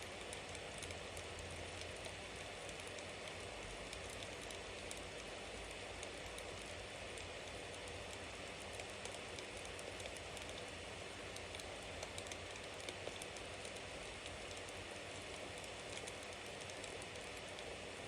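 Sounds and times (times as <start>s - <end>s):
bonfire crackling and hissing: 0.0s - 18.0s.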